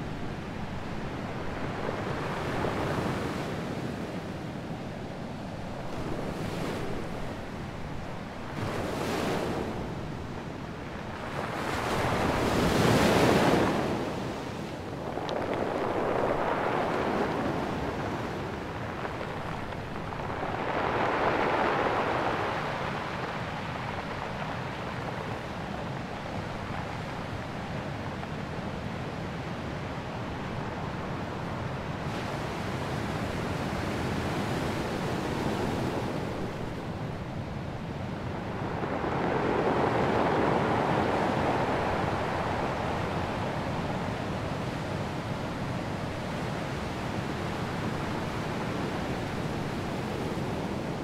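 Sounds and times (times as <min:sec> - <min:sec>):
waves washing on shore: 0:00.0 - 0:51.0
wind across microphone: 0:00.0 - 0:51.0.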